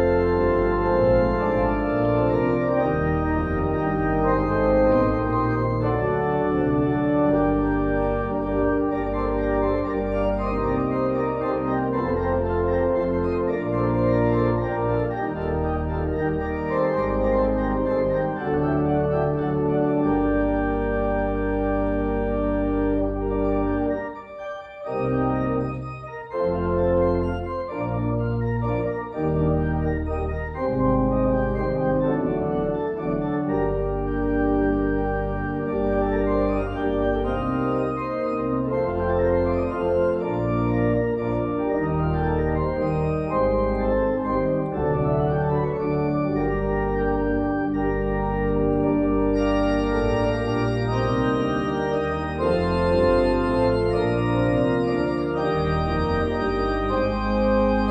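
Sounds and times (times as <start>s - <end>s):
church organ playing chords: 0.0s - 57.9s.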